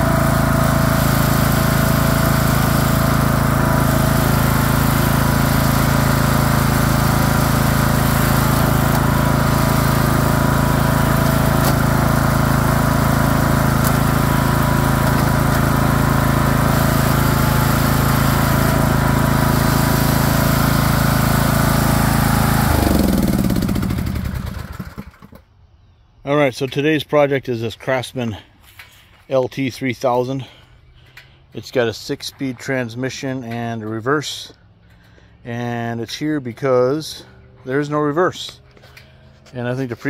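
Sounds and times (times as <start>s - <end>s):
lawn tractor engine running: 0.0s - 25.6s, 30.4s - 40.0s.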